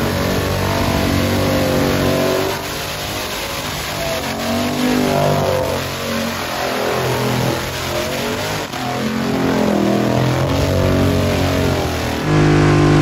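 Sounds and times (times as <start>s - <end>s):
car engine revving hard: 0.0s - 13.0s
spinning tyres hissing: 0.0s - 13.0s.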